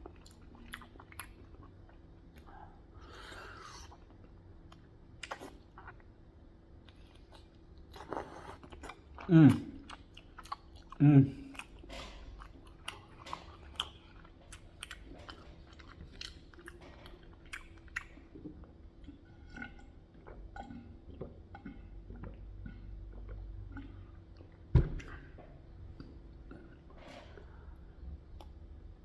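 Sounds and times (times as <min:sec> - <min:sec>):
person chewing food: 0:00.0 - 0:06.2, 0:06.8 - 0:28.6.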